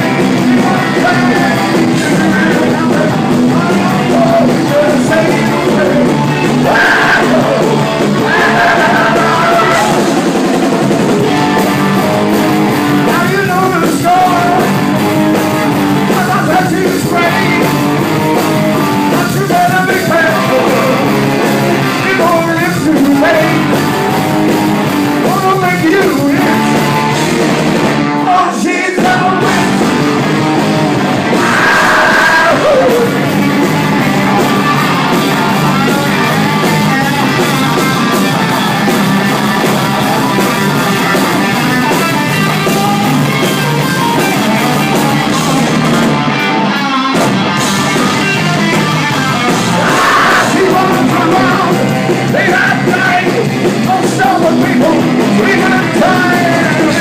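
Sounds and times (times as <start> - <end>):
shouted lead vocal: 0.0 - 10.5, 11.4 - 27.2, 28.1 - 57.0
rock band playing live: 0.0 - 57.0
high yell sliding downward: 0.9 - 10.4, 11.2 - 54.0.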